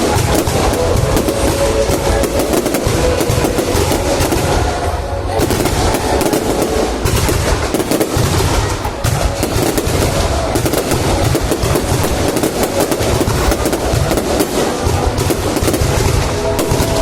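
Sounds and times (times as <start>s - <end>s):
fireworks bangs and crackles: 0.0s - 17.0s
low fireworks booms: 0.0s - 17.0s.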